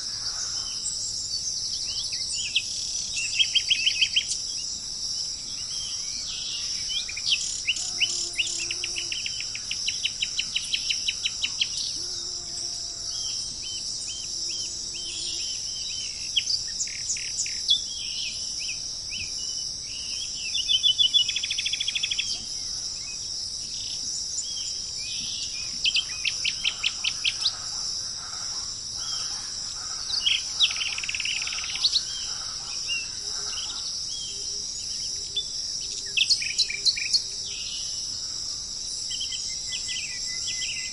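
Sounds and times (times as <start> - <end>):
songbirds chirping and whistling: 0.0 - 12.1, 13.1 - 38.2, 39.0 - 40.9
insects droning: 0.0 - 40.9.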